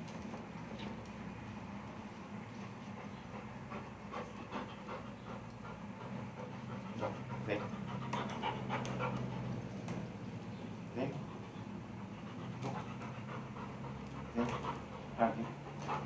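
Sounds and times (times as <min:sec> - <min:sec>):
steady low hum: 0:00.0 - 0:16.0
dog panting: 0:02.0 - 0:16.0.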